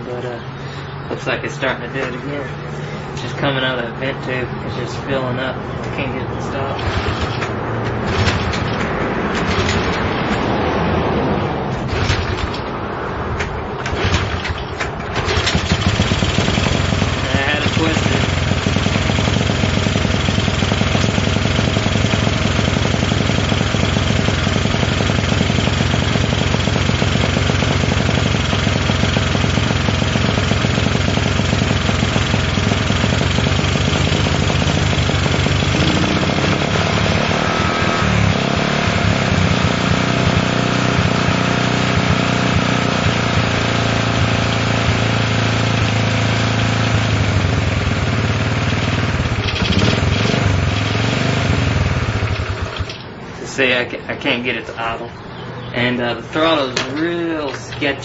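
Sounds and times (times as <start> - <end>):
small motorcycle engine revving: 0.0 - 10.5, 11.8 - 12.7, 13.8 - 53.1.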